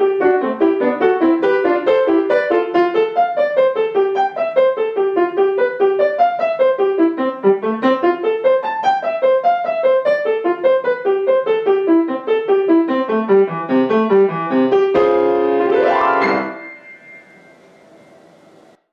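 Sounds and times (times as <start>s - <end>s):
solo piano staccato runs: 0.0s - 18.7s
piano upward glissando: 0.0s - 18.8s.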